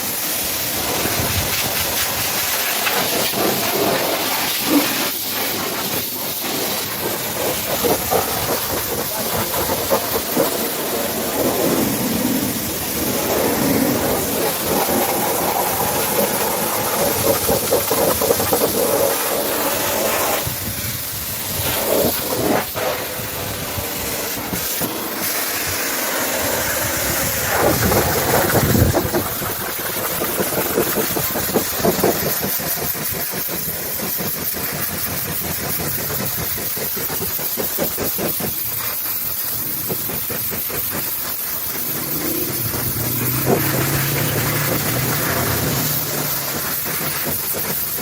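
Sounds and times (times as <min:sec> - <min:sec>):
pressure washer water jet hissing: 0:00.0 - 0:48.0.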